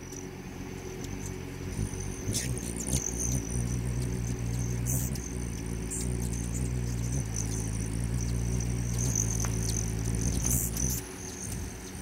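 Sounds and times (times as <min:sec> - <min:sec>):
hummingbird wings buzzing: 0:00.0 - 0:12.0
thin high whine: 0:00.0 - 0:12.0.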